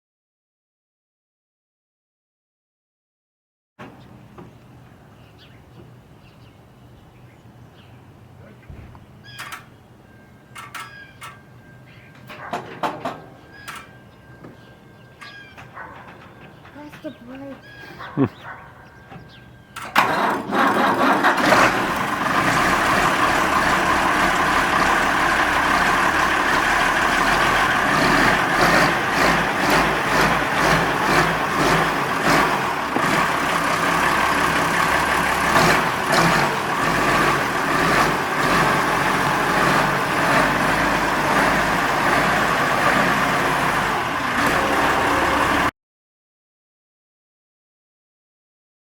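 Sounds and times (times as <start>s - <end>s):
tractor diesel engine running: 3.9s - 17.8s, 18.9s - 45.7s.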